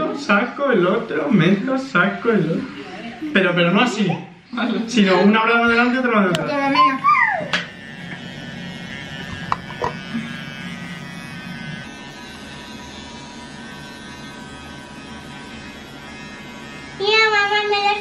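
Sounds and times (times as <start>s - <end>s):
electric toothbrush buzzing: 0.0s - 18.0s.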